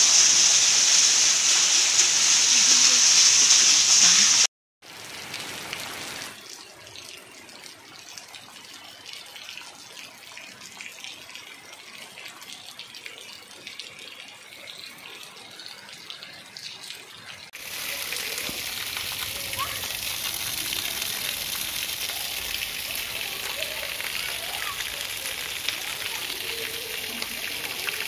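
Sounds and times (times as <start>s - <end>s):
steady rain falling: 0.0s - 16.7s, 17.5s - 28.0s.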